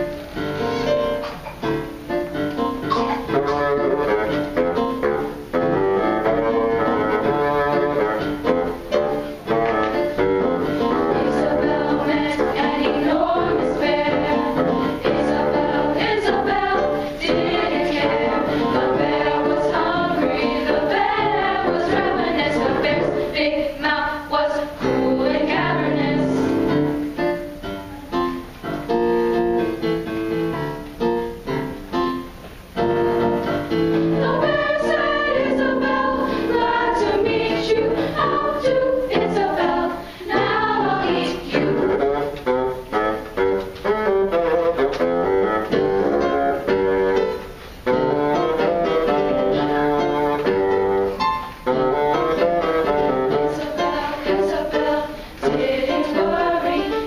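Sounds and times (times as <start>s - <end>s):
girls' choir singing: 0.0s - 27.6s, 32.8s - 57.0s.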